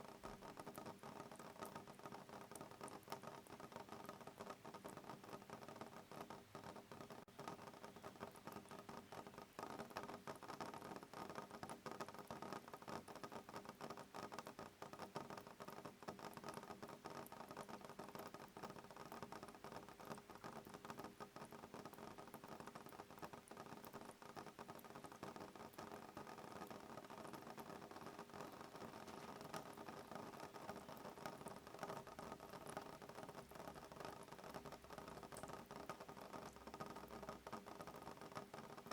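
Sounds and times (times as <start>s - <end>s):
rain pattering on window: 0.0s - 38.9s.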